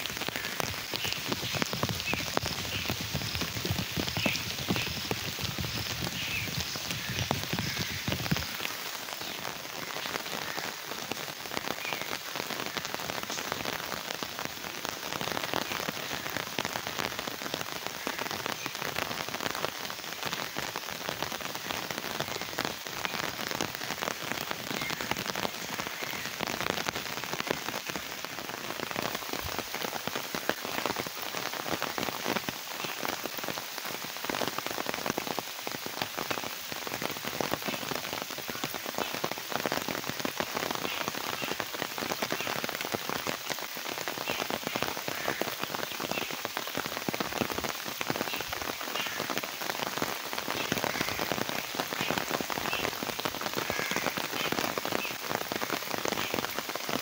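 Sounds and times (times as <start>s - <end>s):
rain falling into puddles: 0.0s - 57.0s.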